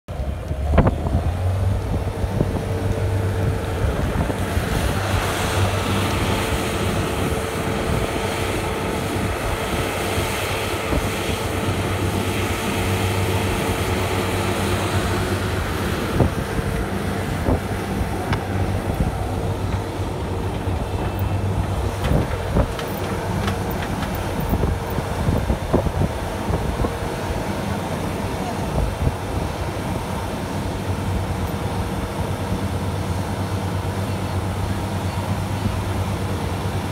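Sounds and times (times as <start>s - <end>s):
loader engine running: 0.1s - 36.9s
wind on microphone: 0.2s - 32.4s.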